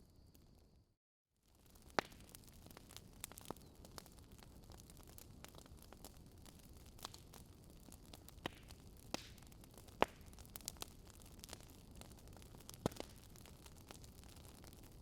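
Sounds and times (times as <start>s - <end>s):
campfire crackling: 1.4s - 15.0s
campfire pops: 1.6s - 15.0s.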